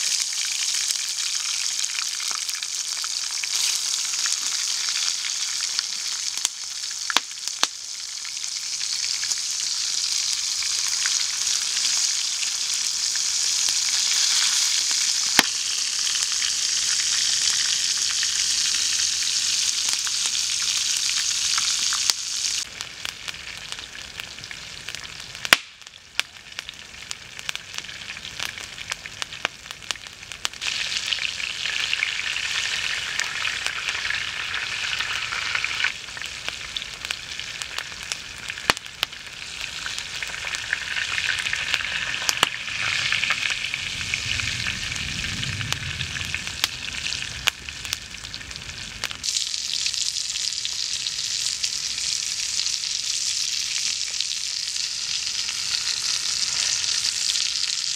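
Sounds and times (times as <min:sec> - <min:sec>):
food sizzling in hot oil: 0:00.0 - 0:57.9.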